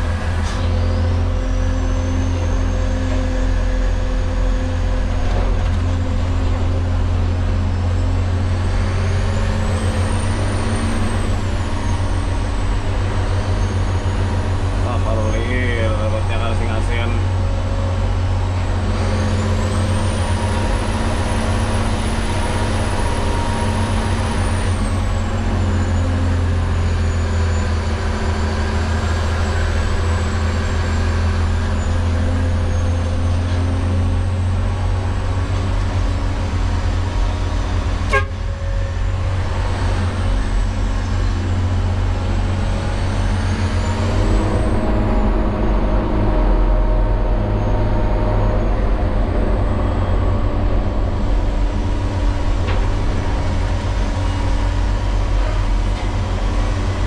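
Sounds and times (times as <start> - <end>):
truck engine rumble: 0.0 - 57.0.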